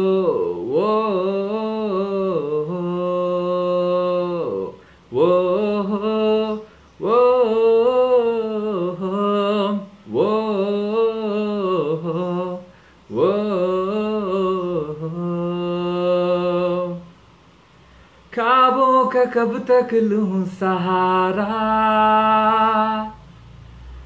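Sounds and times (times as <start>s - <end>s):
man singing unaccompanied: 0.0s - 23.5s.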